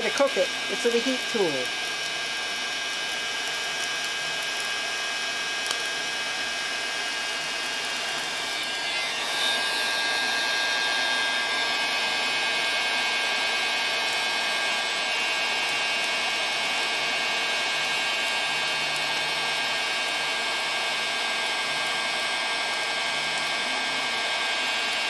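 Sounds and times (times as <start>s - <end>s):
heat gun running with whine: 0.0s - 25.0s.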